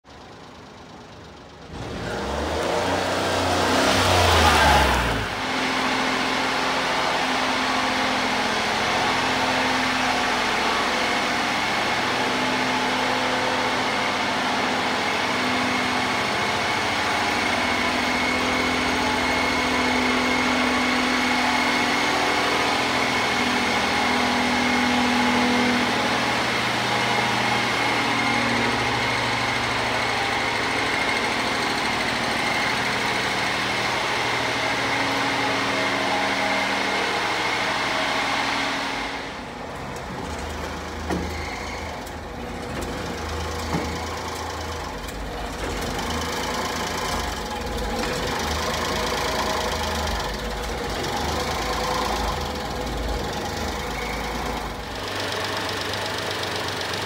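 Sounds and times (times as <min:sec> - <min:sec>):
small engine idling: 0:00.0 - 0:03.0, 0:04.4 - 0:38.2, 0:39.4 - 0:57.0.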